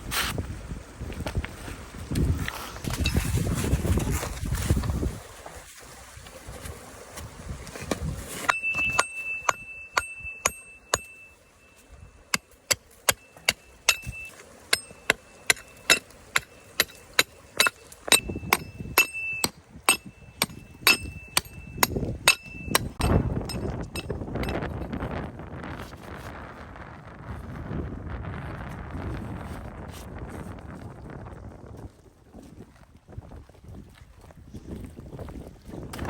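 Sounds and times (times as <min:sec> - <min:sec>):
wind noise on microphone: 0:00.0 - 0:12.4, 0:13.5 - 0:36.0.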